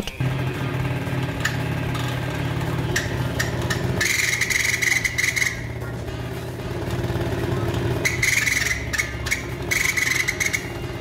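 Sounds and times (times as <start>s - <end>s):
scooter engine idling: 0.0s - 11.0s.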